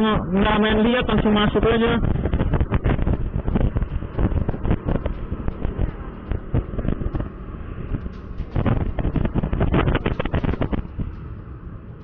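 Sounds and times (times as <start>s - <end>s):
motorcycle riding: 0.0s - 12.0s
wind buffeting microphone: 0.0s - 12.0s.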